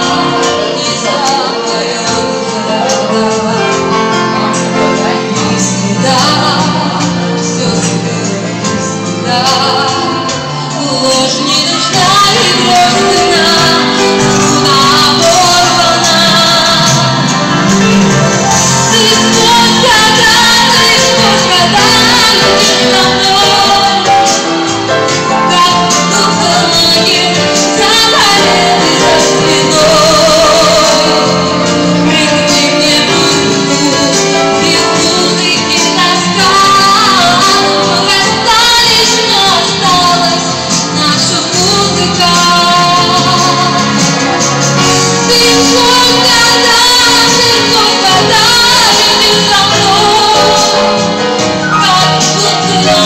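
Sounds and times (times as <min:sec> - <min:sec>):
woman singing into microphone: 0:00.0 - 0:53.0.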